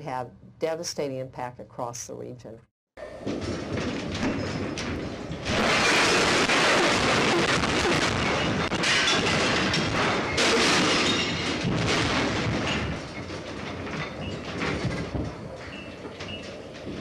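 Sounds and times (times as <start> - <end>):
objects crashing down: 3.1 - 17.0
shake table rumbling and rattling: 3.2 - 17.0.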